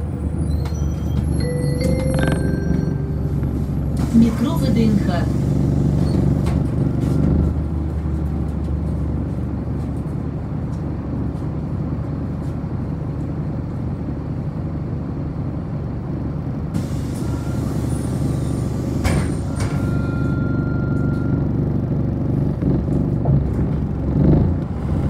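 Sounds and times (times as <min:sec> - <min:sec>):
bus engine idling: 0:00.0 - 0:25.0
bus pulling away: 0:00.0 - 0:25.0.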